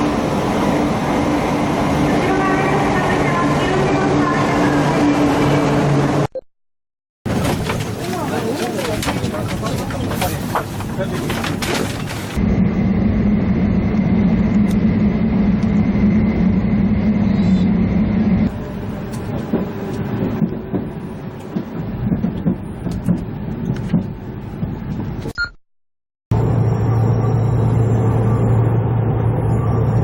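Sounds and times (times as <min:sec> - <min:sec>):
train rumbling: 0:00.0 - 0:06.3, 0:07.3 - 0:25.3, 0:26.3 - 0:30.0.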